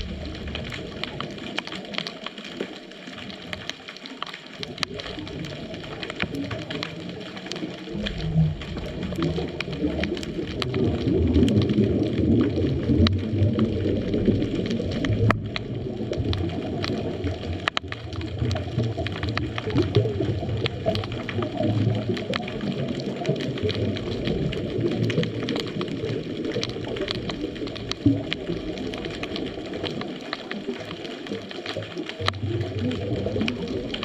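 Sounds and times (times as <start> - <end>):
underwater regulator bubbles: 0.0 - 34.0.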